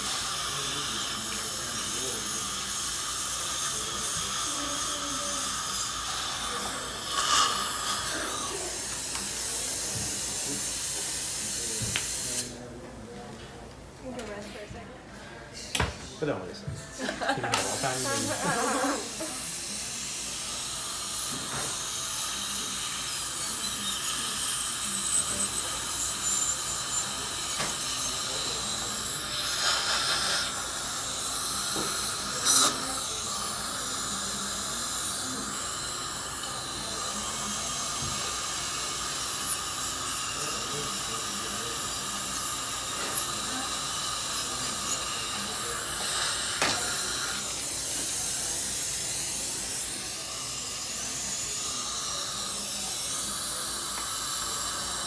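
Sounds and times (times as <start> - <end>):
air-driven dental drill: 0.0 - 12.7, 16.7 - 55.0
suction hiss: 0.0 - 12.7, 17.2 - 55.0.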